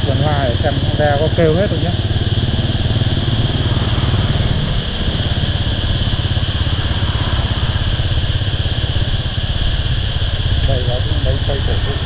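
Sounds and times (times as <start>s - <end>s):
high-pitched hum: 0.0s - 12.0s
motorbike engine running: 0.0s - 12.0s.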